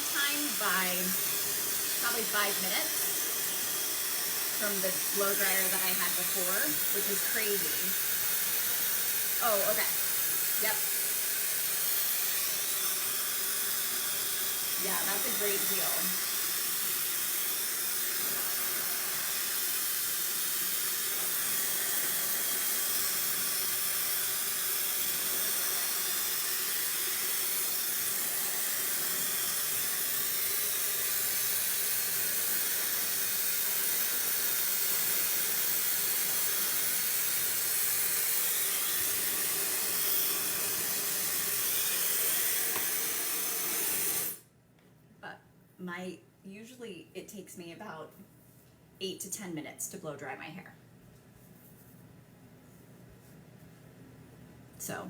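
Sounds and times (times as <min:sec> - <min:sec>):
hair dryer running: 0:00.0 - 0:44.4.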